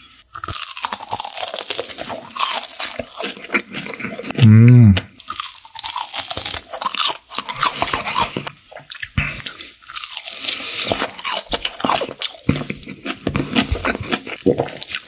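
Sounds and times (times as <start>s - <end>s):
crunching fried chicken: 0.0s - 15.0s.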